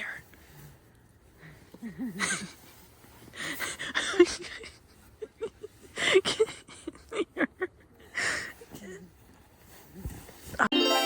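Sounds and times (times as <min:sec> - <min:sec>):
people whispering and giggling: 0:01.2 - 0:10.7.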